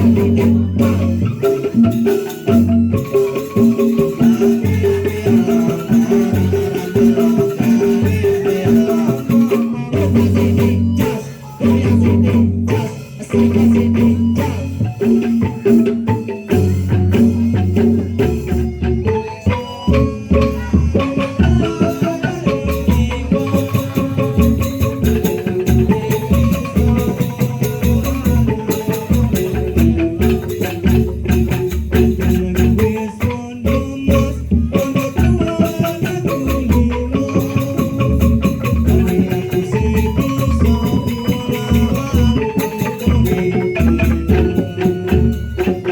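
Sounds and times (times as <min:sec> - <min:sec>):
mallet percussion music: 0:00.0 - 0:45.9.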